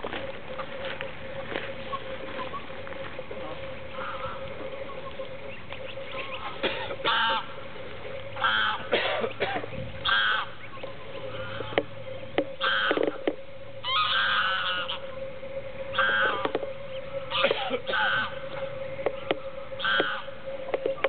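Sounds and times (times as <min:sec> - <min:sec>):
geese calling: 0:00.0 - 0:21.0.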